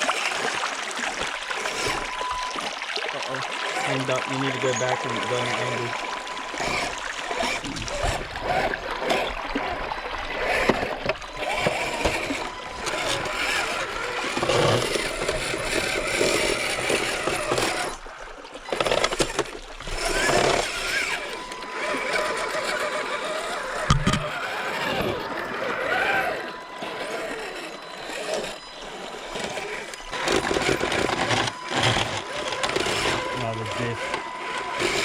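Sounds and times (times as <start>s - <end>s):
toy car electric motor whirring: 0.0s - 35.0s.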